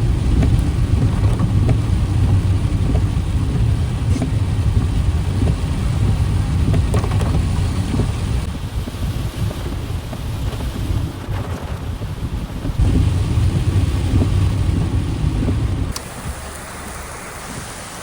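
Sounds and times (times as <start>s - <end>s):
wind buffeting microphone: 0.0s - 17.8s.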